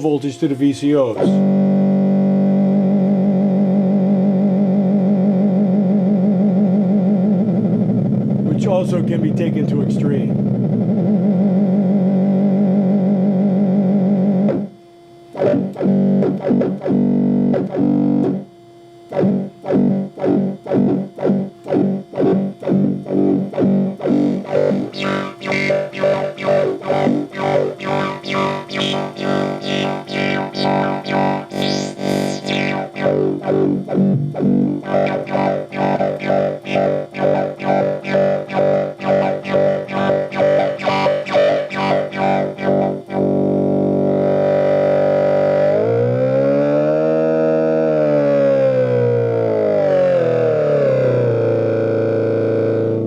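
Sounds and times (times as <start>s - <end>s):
pulsing buzzy synthesizer tone: 0.0s - 53.0s.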